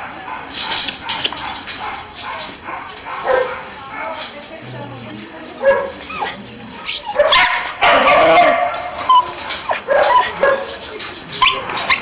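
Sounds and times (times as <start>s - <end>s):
dogs barking and yipping: 0.0s - 4.4s, 5.6s - 12.0s.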